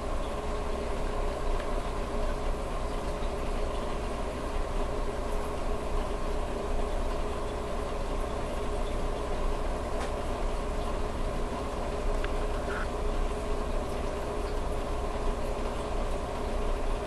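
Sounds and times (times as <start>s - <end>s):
aquarium pump hum: 0.0s - 17.0s.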